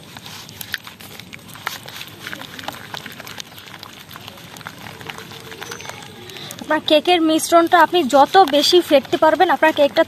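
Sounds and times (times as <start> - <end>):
hands squelching batter: 0.0 - 10.0
sticky clicks and smacks: 0.0 - 10.0.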